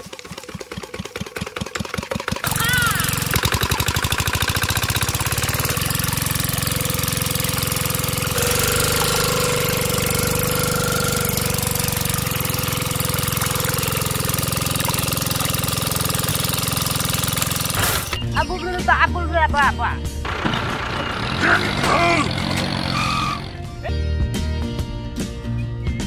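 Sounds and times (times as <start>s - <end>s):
pump engine chugging: 0.0s - 18.2s, 20.2s - 23.7s.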